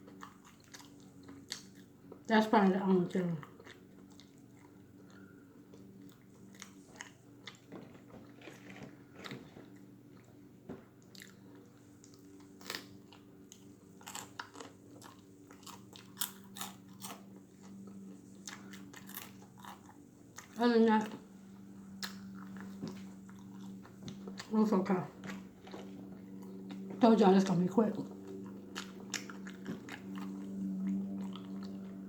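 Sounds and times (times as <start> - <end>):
crunchy chewing: 0.0 - 2.3, 3.1 - 32.0.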